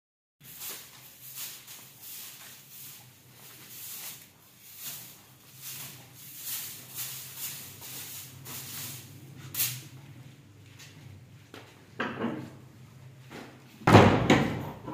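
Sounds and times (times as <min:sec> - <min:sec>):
broom sweeping tiled floor: 0:00.4 - 0:13.8.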